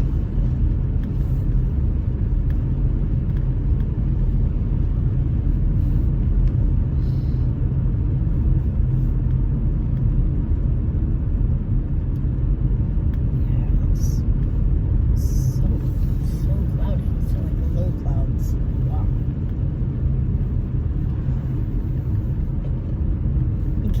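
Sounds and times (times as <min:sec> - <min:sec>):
car cabin road and engine rumble: 0:00.0 - 0:24.0.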